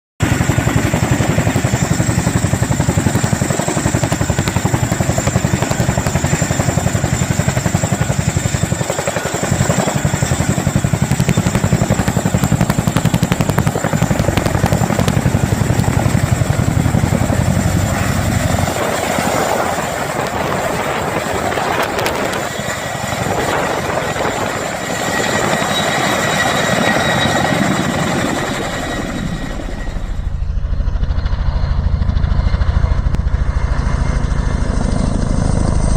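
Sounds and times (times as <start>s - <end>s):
helicopter high whine: 0.2s - 35.9s
helicopter rotor chop: 0.2s - 35.9s.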